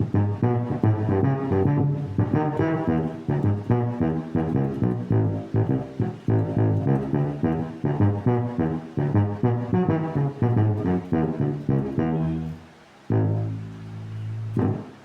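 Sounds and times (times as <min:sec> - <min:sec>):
tuba-like electric bass notes: 0:00.0 - 0:15.0.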